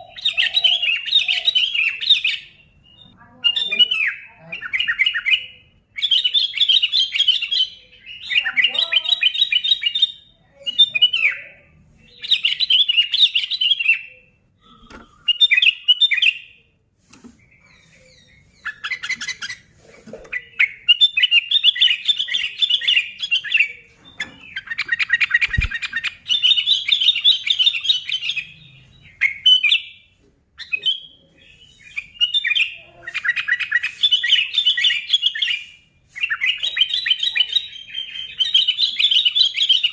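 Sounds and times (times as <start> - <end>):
bird singing chattering phrases: 0.0 - 16.8, 17.4 - 39.9.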